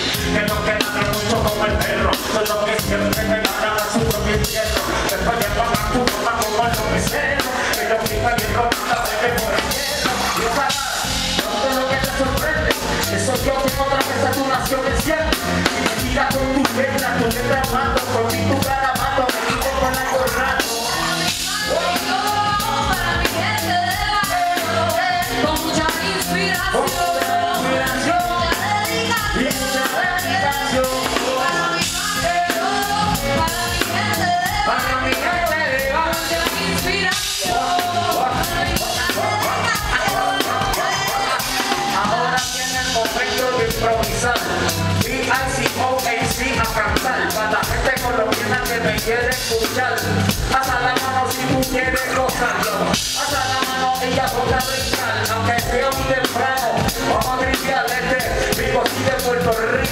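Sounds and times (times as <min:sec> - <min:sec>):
drum kit beat: 0:00.0 - 0:59.9
live band playing through pa: 0:00.0 - 0:59.9.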